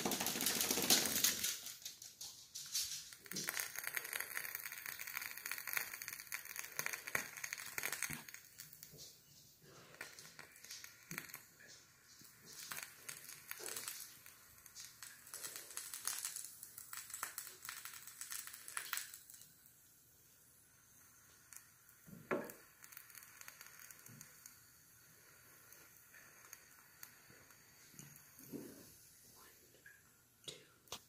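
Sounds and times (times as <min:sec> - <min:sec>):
wax crackling and popping in flame: 0:00.0 - 0:31.0.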